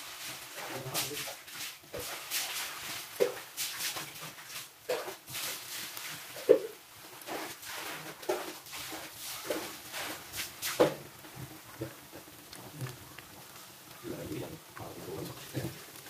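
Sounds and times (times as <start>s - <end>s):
batter sizzling in hot oil: 0.0s - 16.0s.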